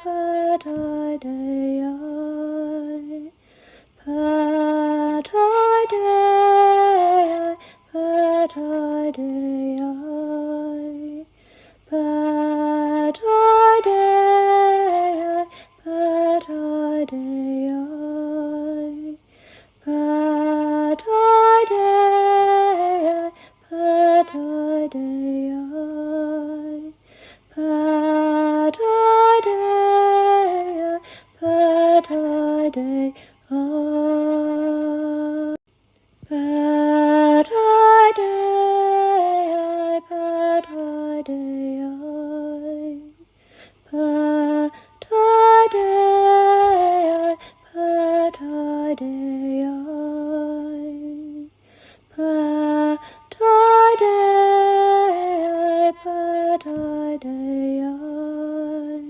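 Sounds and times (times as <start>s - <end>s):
woman singing wordless chant: 0.0s - 59.0s.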